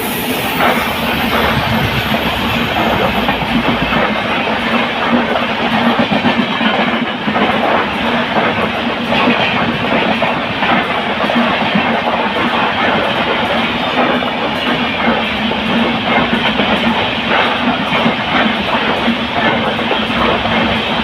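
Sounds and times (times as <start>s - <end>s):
train rumbling past: 0.0s - 21.0s
wheels clattering over rails: 0.4s - 21.0s.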